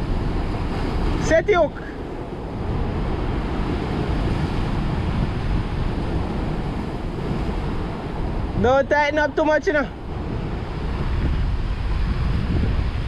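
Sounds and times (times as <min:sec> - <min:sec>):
surf washing against rocks: 0:00.0 - 0:13.0
wind buffeting microphone: 0:00.0 - 0:13.0.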